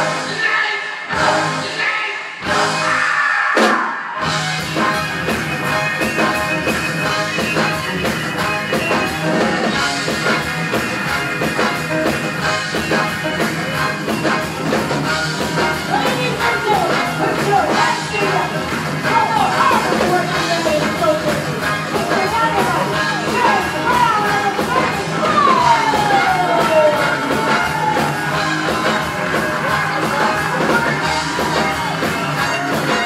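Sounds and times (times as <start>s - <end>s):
live funk band playing: 2.4s - 33.0s
drums fast beat: 3.6s - 33.0s.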